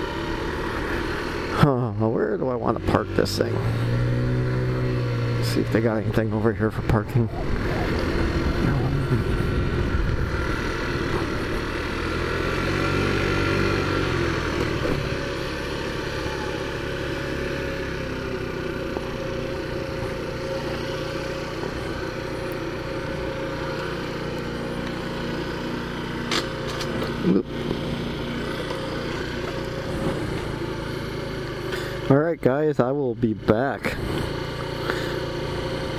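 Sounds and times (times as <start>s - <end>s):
scooter engine idling: 0.0s - 3.3s, 4.3s - 35.9s.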